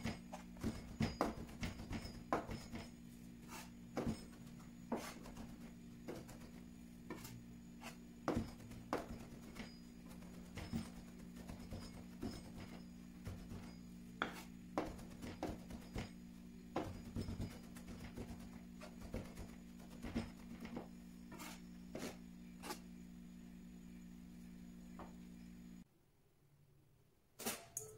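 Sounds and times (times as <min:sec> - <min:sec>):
steady low hum: 0:00.0 - 0:27.2.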